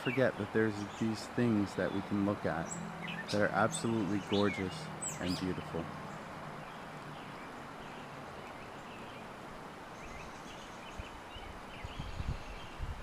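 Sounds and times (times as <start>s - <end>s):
faint bird chirps: 0.0s - 13.0s
steady outdoor hiss: 0.0s - 13.0s.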